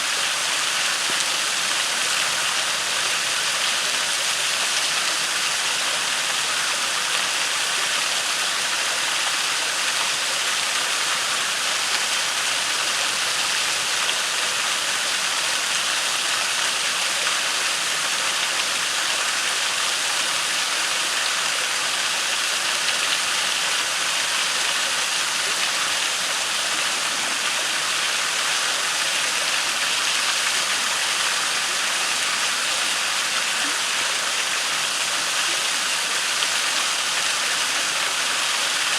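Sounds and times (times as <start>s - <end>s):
waterfall and creek rushing: 0.0s - 38.9s.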